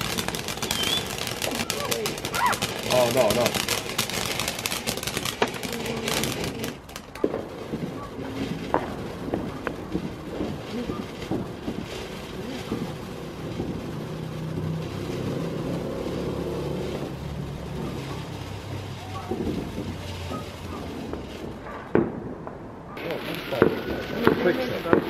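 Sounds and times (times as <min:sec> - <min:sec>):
firework pops: 0:00.0 - 0:15.9, 0:16.8 - 0:25.0
firework rushing hiss: 0:00.0 - 0:22.3, 0:22.9 - 0:25.0
firework crackling: 0:00.0 - 0:25.0.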